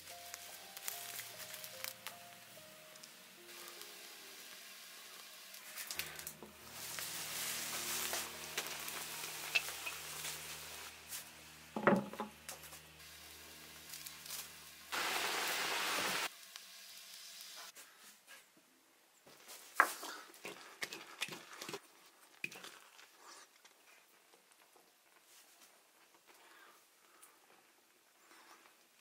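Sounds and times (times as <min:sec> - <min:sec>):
straw crackling and hissing in stove: 0:00.0 - 0:18.3, 0:19.4 - 0:29.0.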